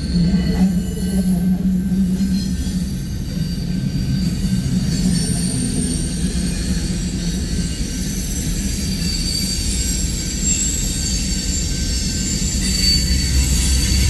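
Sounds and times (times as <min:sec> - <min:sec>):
wheels squealing on rails: 0:00.0 - 0:14.0.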